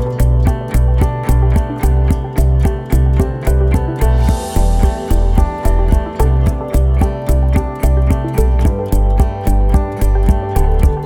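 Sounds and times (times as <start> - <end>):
deep bass pulses: 0.0 - 11.0
sustained melodic tones: 0.0 - 11.0.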